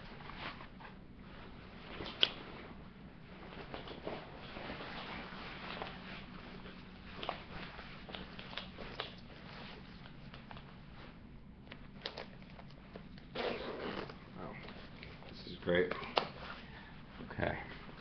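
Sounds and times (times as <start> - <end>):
jacket rustling and crinkling: 0.0 - 18.0.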